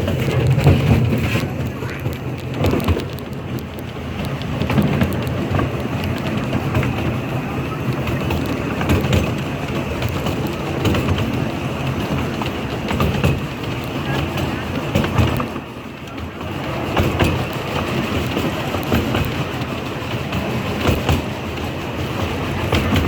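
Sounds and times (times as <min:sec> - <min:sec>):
clicks and clacks: 0:00.0 - 0:23.0
train wheels rumbling on track: 0:00.0 - 0:23.0.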